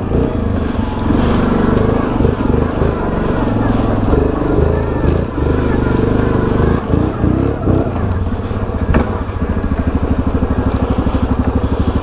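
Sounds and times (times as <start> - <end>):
atv engine revving and chugging: 0.0 - 12.0.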